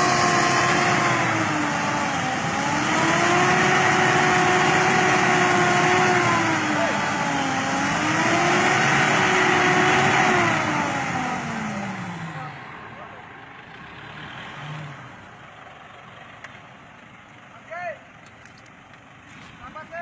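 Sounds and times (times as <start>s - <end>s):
truck engine revving: 0.0s - 16.8s.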